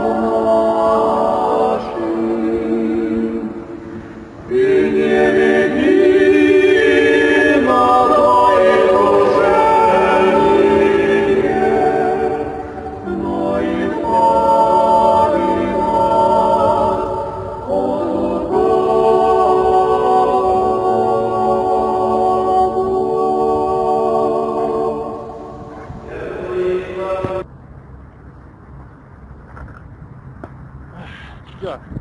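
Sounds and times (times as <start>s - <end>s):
choir singing held notes: 0.0s - 27.5s.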